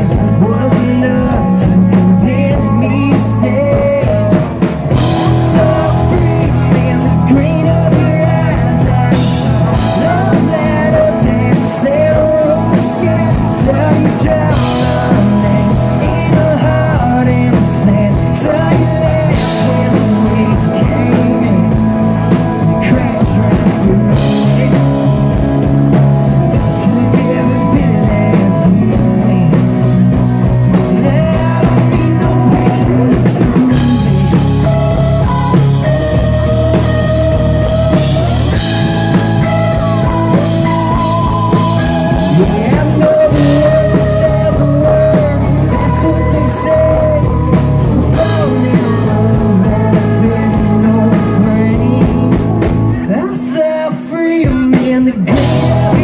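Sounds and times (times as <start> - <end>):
drums: 0.0 - 56.0
sliding electric lead guitar: 0.0 - 56.0.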